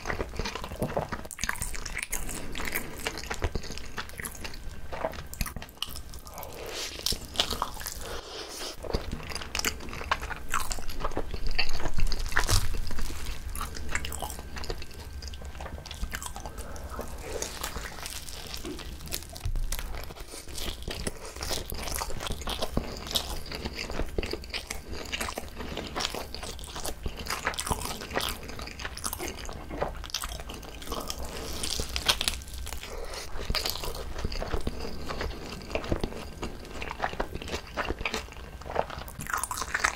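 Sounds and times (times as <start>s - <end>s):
chewing with crunches and clicks: 0.0s - 39.9s.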